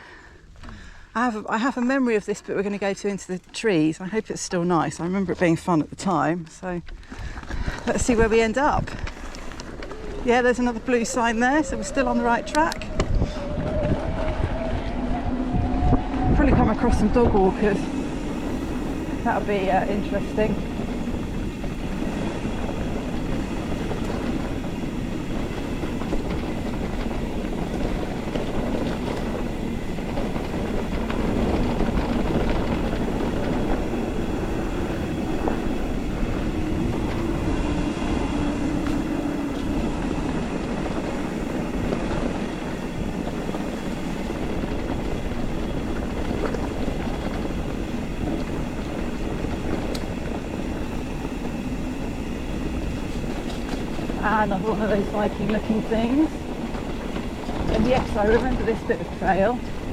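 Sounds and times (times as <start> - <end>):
tyres rumbling on trail: 0.0 - 59.9
bike rattling: 4.8 - 59.9.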